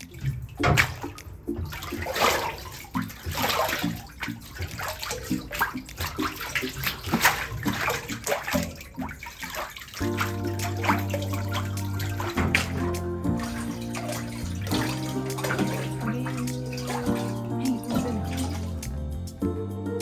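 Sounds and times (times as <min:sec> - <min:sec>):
water sloshing and splashing: 0:00.0 - 0:19.3.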